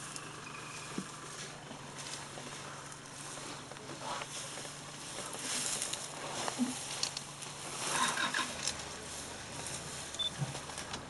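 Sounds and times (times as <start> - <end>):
grass and brush rustling: 0.0 - 11.0.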